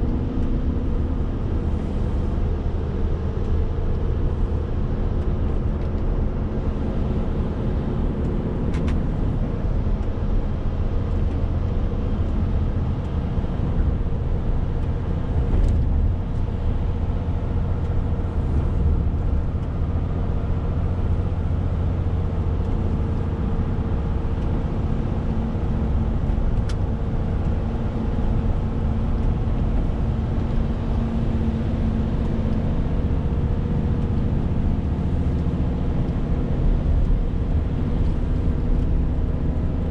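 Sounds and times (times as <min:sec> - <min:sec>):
lorry diesel engine running: 0:00.0 - 0:39.9
road noise: 0:00.0 - 0:39.9.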